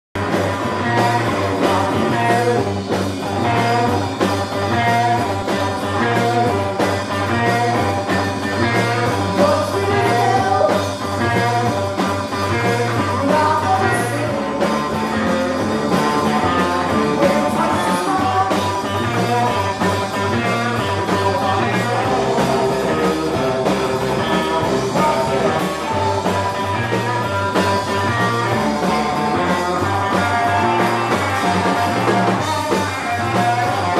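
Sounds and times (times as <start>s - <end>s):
live rock band playing: 0.2s - 33.9s.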